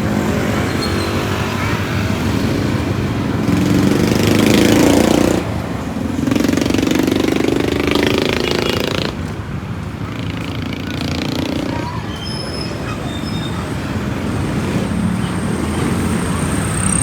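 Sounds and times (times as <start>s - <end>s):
motorcycles passing by: 0.0s - 17.0s
street noise: 0.0s - 17.0s.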